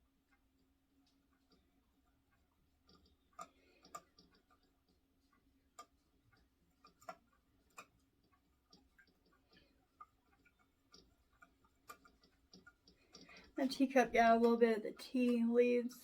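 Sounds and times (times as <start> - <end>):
light clicks and taps: 0.1 - 16.0.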